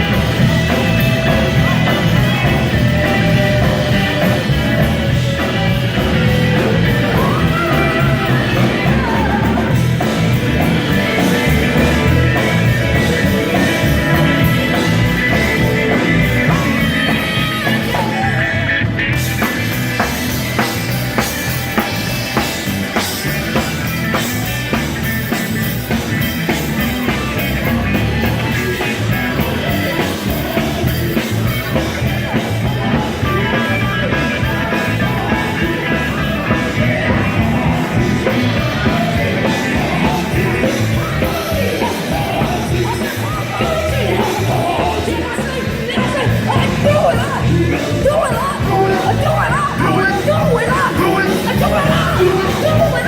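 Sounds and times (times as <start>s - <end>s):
band playing: 0.0s - 53.0s
drums keeping a steady beat: 0.0s - 53.0s
voices singing: 0.0s - 53.0s.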